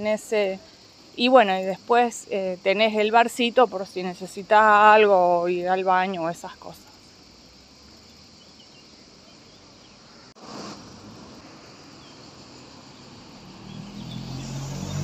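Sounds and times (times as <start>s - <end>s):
soft steady hiss: 0.0s - 13.8s.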